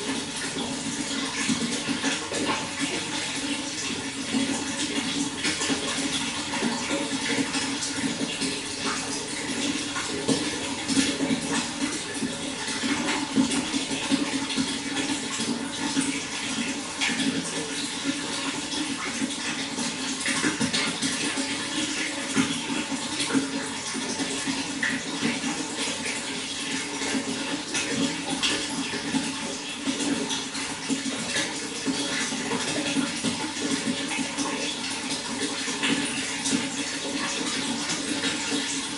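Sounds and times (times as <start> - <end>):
running water splashing and gurgling: 0.0 - 38.9.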